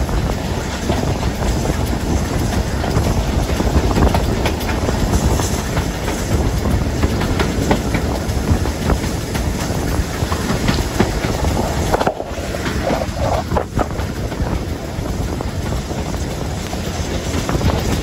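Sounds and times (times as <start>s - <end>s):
steam train rumbling: 0.0s - 18.0s
wheels clicking over track: 0.0s - 18.0s
wind buffeting microphone: 0.0s - 18.0s.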